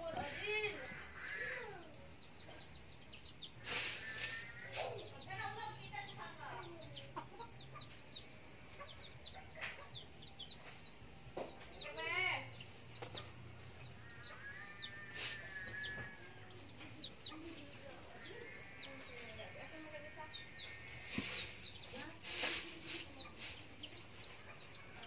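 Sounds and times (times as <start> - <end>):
chickens clucking: 0.0 - 25.0
high chirps: 1.2 - 25.0.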